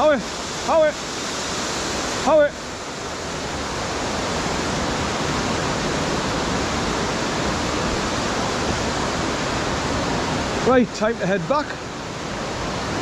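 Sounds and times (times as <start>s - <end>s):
waterfall crashing onto rocks: 0.0s - 13.0s.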